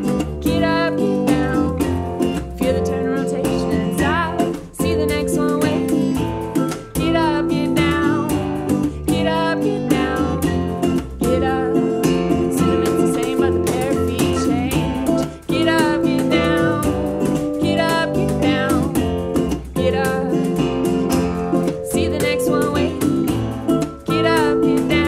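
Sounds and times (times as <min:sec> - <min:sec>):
strummed acoustic guitar: 0:00.0 - 0:25.0
upright bass: 0:00.0 - 0:25.0
woman singing: 0:00.1 - 0:20.7, 0:21.5 - 0:25.0.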